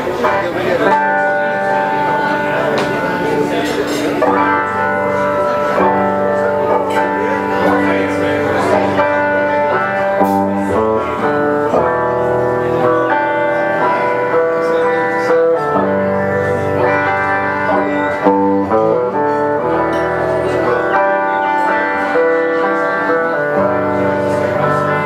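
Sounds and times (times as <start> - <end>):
guitar chords: 0.0 - 25.0
live band playing: 0.0 - 25.0.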